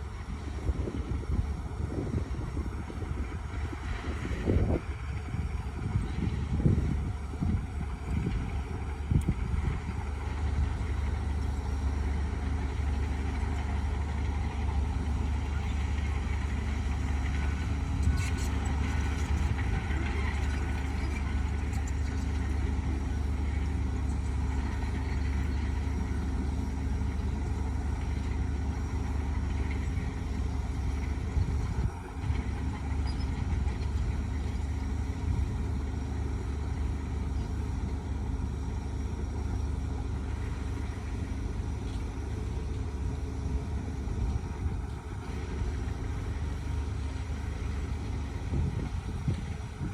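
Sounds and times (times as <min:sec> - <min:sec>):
heavy machine engine rumbling: 0:00.0 - 0:49.9.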